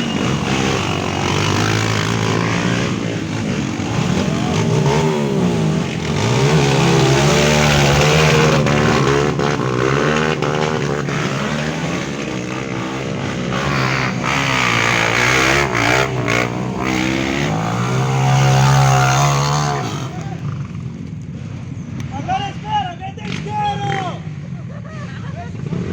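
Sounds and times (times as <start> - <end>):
motorcycle engines revving: 0.0 - 22.1, 23.2 - 25.9.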